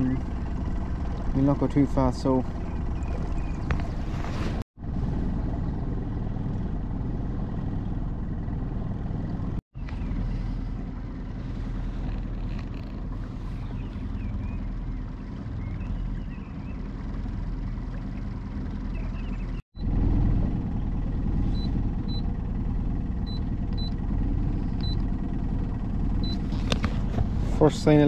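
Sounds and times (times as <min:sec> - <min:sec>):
boat motor rumbling: 0:00.0 - 0:28.0.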